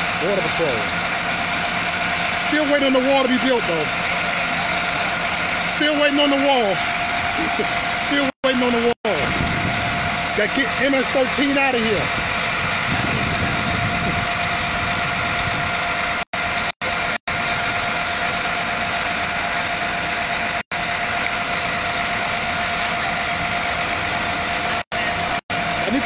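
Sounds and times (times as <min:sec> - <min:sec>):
bus engines idling: 0:00.0 - 0:26.0
thin steady whine: 0:00.0 - 0:26.0.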